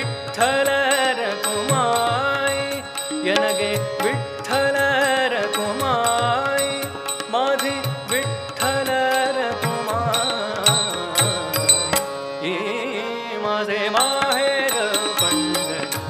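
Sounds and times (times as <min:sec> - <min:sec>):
hand cymbals striking a beat: 0:00.0 - 0:12.2, 0:14.0 - 0:16.0
man singing: 0:00.0 - 0:16.0
tabla: 0:00.0 - 0:16.0.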